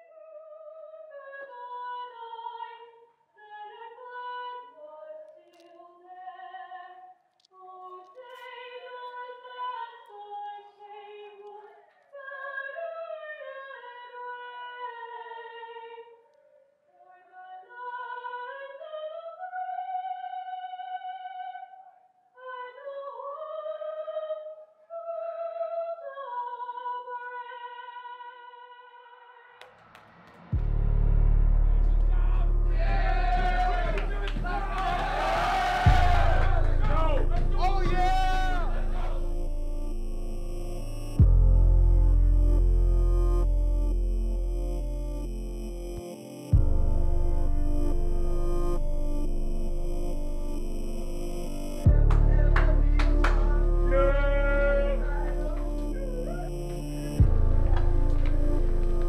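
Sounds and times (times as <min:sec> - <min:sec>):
slow wordless singing-like melody: 0:00.0 - 0:29.6, 0:32.5 - 0:59.0.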